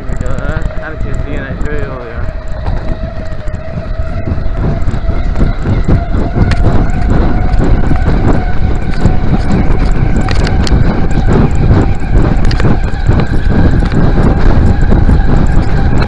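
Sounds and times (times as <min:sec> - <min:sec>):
bike rattles: 0:00.0 - 0:16.0
wind buffeting microphone: 0:00.0 - 0:16.0.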